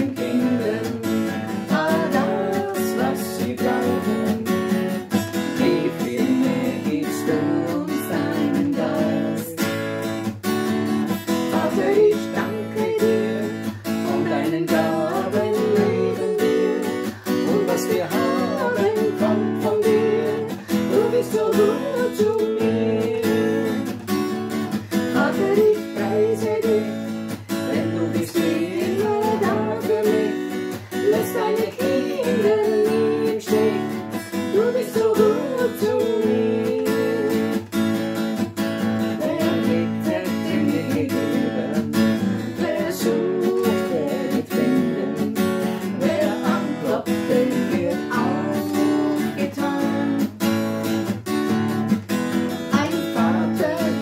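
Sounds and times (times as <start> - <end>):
woman and man singing: 0.0 - 10.2, 11.1 - 37.9, 39.0 - 50.7, 52.7 - 54.0
acoustic guitar strumming: 0.0 - 54.0.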